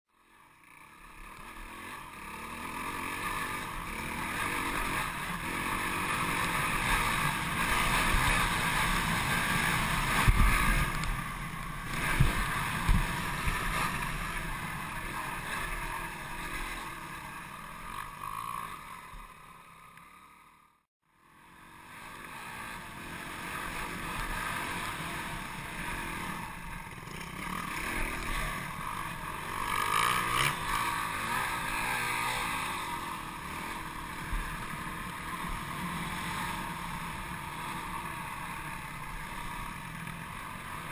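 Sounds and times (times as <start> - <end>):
dirt bike engine: 0.1 - 40.9.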